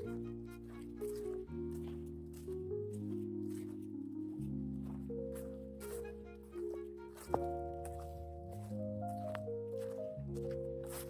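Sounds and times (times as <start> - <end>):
slow sustained chord music: 0.0 - 11.0.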